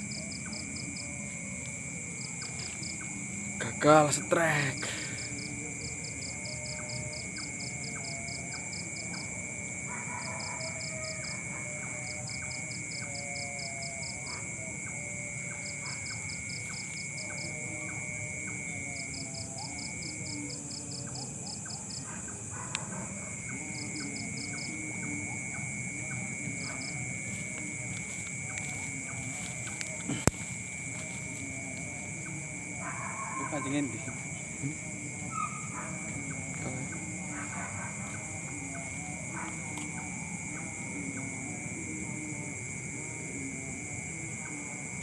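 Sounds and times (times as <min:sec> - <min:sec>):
insects trilling: 0:00.0 - 0:45.0
pulsed insect chirping: 0:00.0 - 0:45.0
low wavering animal calls: 0:05.3 - 0:44.8.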